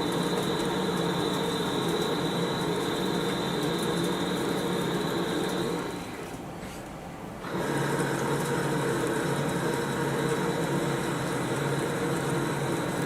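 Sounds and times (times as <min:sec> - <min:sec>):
lathe machining with held tones: 0:00.0 - 0:13.0.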